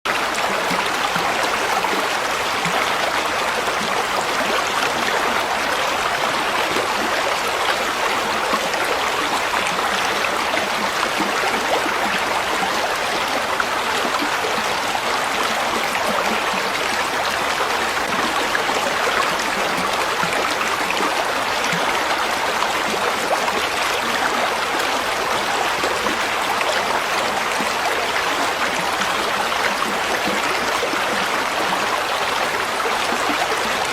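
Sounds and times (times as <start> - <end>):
flowing water rushing: 0.1 - 33.9.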